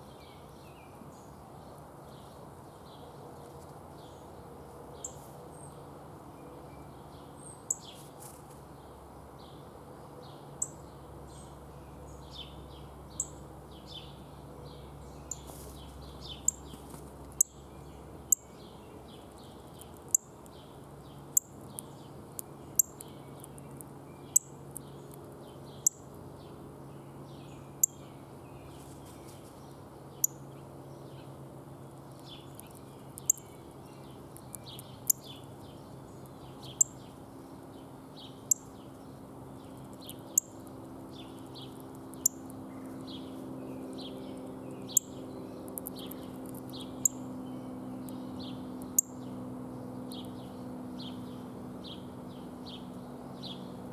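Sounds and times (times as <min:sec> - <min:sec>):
songbirds chirping: 0:00.0 - 0:53.9
steady low hum: 0:00.0 - 0:53.9.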